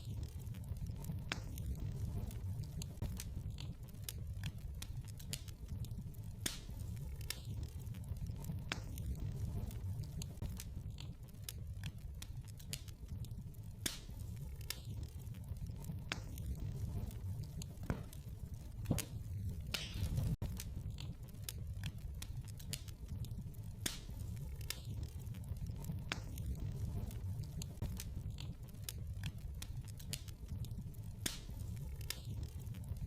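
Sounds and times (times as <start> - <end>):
fire hissing: 0.0 - 33.0
wood fire crackling: 0.0 - 33.0.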